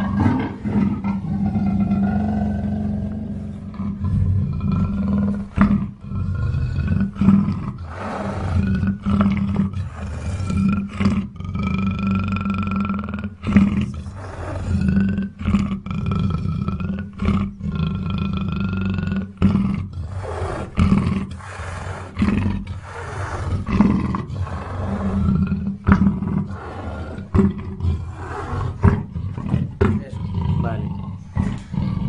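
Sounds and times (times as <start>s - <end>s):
big cat rough calls: 0.0s - 32.0s.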